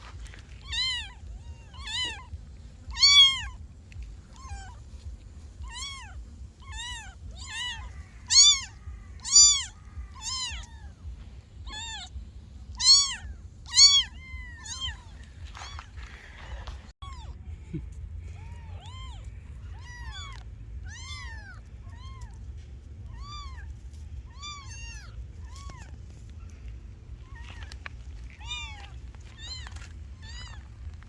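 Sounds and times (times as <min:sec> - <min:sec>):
kittens meowing: 0:00.0 - 0:31.0.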